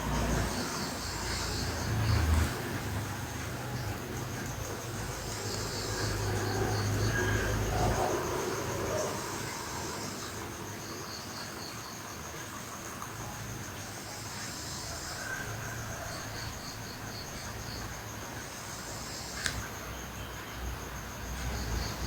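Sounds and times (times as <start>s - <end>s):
insects chirping in pulsed trills: 0.0s - 22.0s.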